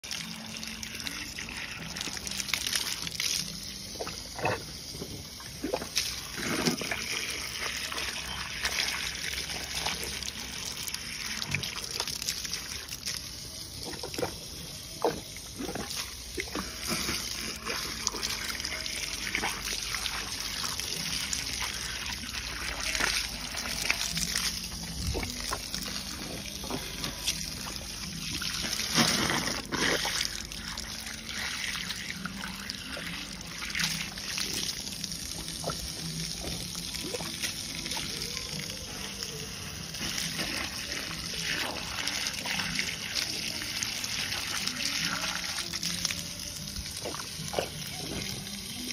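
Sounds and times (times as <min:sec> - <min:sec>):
hose water splashing: 0:00.0 - 0:48.9.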